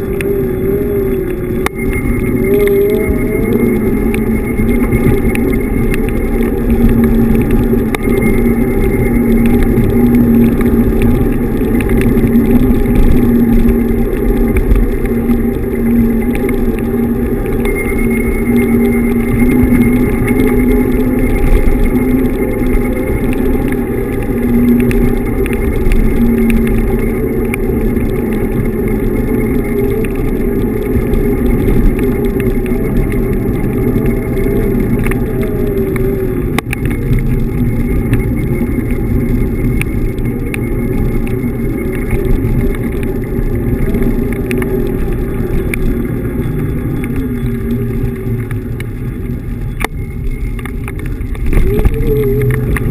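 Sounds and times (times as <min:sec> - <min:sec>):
faint drifting tone: 0:00.0 - 0:52.9
scooter tyres rumbling on pavement: 0:00.0 - 0:52.9
wind on microphone: 0:00.0 - 0:52.9.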